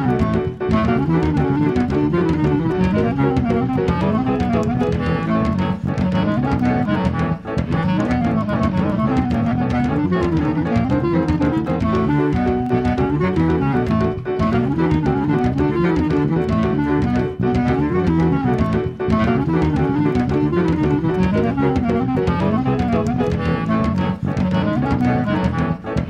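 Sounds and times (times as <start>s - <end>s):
clarinet melody: 0.0s - 26.0s
moving bass line: 0.0s - 26.0s.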